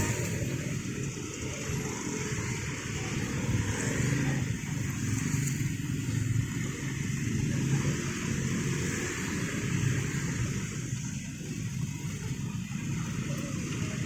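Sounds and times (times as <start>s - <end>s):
motor vehicles rumbling: 0.0s - 14.0s.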